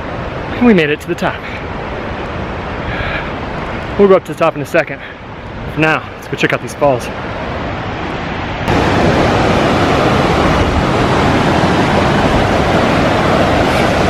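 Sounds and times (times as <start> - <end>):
water rushing over rock cascades: 0.0 - 14.0.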